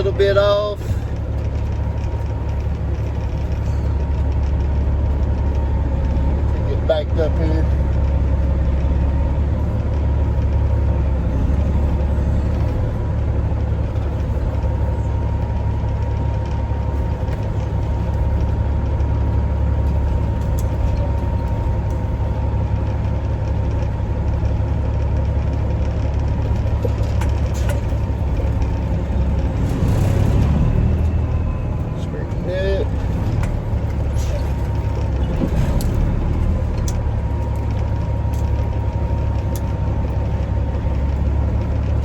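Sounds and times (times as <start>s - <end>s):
diesel truck engine rumble: 0.0s - 42.0s
engine whine: 0.0s - 42.0s.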